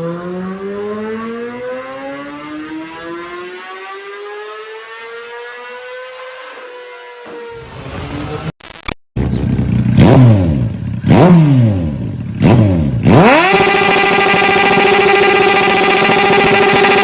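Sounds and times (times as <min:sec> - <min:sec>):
motorcycle engine revving: 0:00.0 - 0:08.6, 0:09.2 - 0:17.0.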